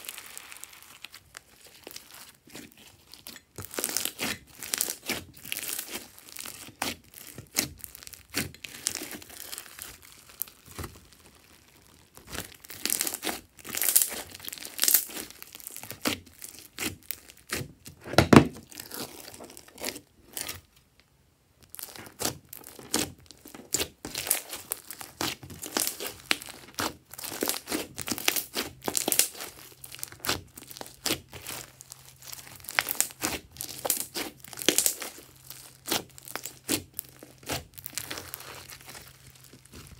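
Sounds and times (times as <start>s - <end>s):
slime crackling and popping: 0.0s - 20.8s, 21.6s - 39.9s.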